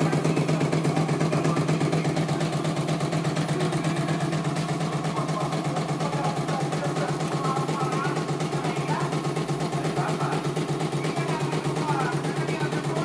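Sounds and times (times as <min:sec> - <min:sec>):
embroidery machine needle stitching: 0:00.0 - 0:13.0
steady motor hum: 0:00.0 - 0:13.0.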